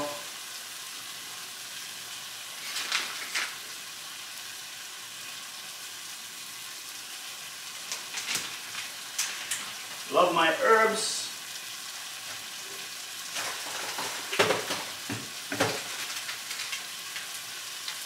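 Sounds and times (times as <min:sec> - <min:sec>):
tomato sauce sizzling in a wok: 0:00.0 - 0:18.0.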